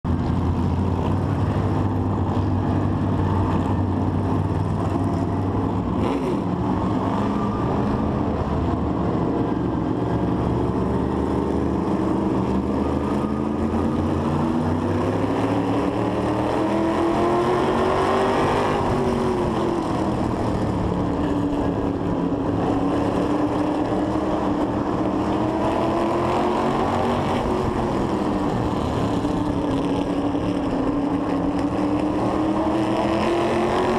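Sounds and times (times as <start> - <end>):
race car engine running: 0.0 - 33.9.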